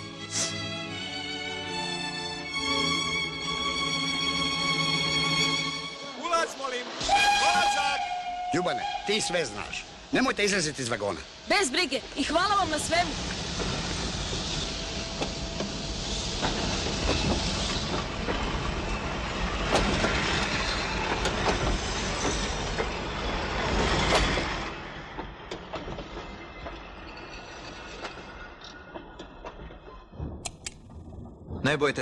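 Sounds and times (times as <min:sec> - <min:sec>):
train carriages rumbling and clattering: 0:06.2 - 0:32.0.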